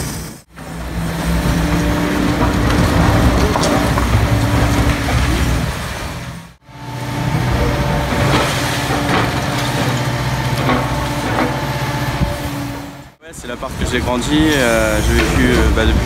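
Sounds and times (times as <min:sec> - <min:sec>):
excavator running under load: 0:00.1 - 0:16.0.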